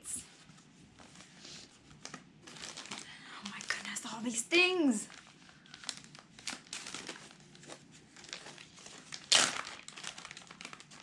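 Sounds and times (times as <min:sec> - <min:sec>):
paper rustling and crinkling: 0:00.2 - 0:04.0, 0:04.7 - 0:11.0.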